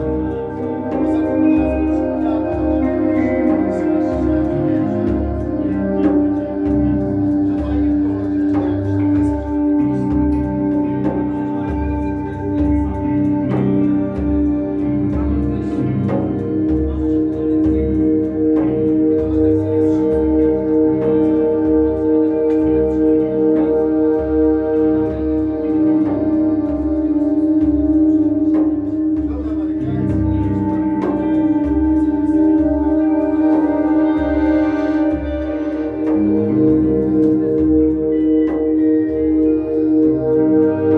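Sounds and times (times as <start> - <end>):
low bass pulsing: 0.0 - 40.9
sustained layered chords: 0.0 - 40.9.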